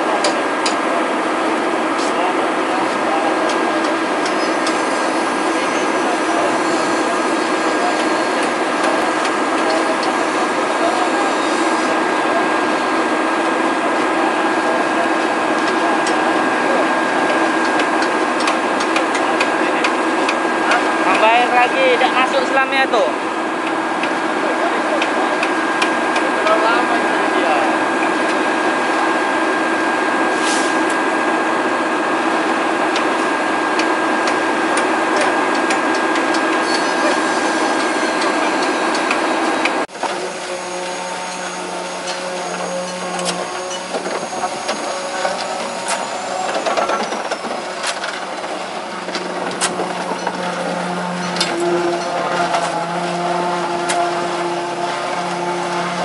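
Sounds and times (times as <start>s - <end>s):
construction machinery drone: 0.0s - 56.0s.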